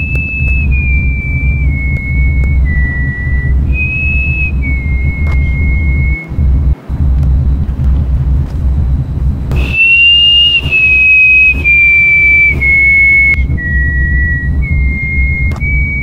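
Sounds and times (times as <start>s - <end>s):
high whistle-like tone: 0.0s - 7.6s, 8.9s - 16.0s
low droning rumble: 0.0s - 16.0s.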